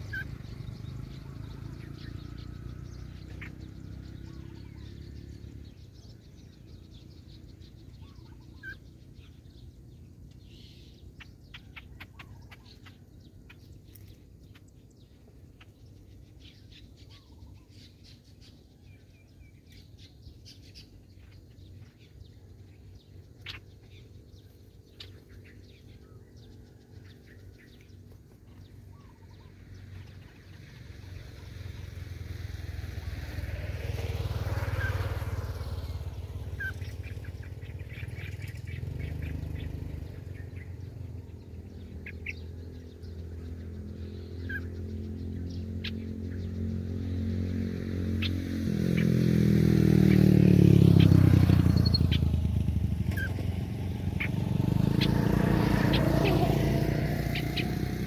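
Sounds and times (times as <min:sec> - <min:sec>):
low motor hum: 0:00.0 - 0:58.0
small birds chirping: 0:00.0 - 0:58.0.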